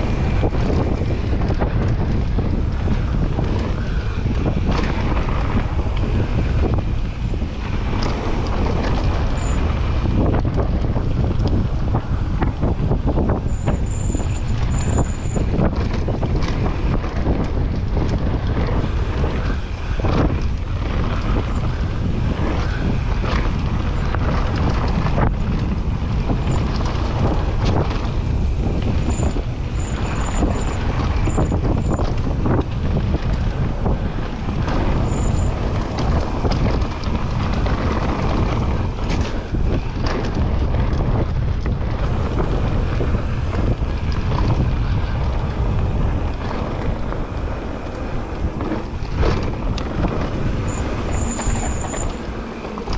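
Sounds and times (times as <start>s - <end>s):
bike knocks and rattles: 0.0s - 52.9s
tyre noise on dirt: 0.0s - 52.9s
wind rushing over microphone: 0.0s - 52.9s.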